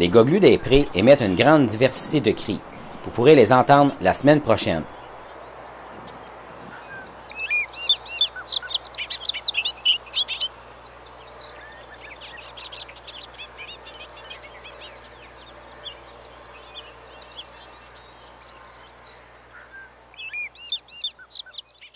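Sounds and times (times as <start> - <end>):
low background hum: 0.0 - 21.9
songbirds chirping: 0.0 - 21.9.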